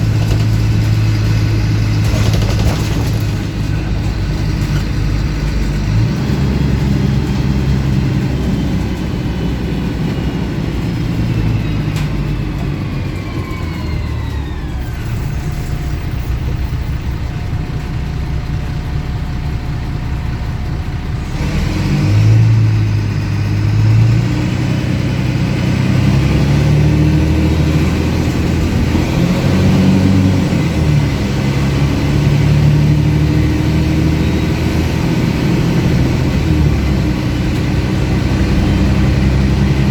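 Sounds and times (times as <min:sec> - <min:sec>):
bus diesel engine with loud exhaust: 0:00.0 - 0:39.9.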